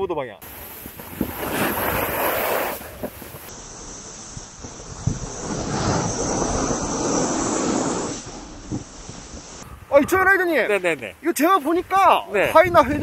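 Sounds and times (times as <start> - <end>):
wind rushing over microphone: 0.4 - 10.6, 11.7 - 13.0.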